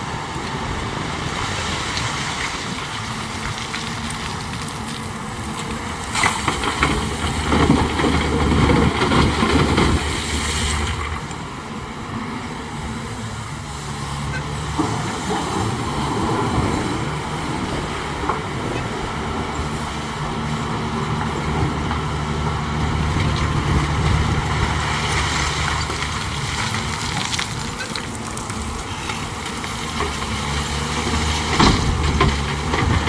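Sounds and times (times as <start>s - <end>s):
earthmoving machinery running: 0.0s - 33.0s.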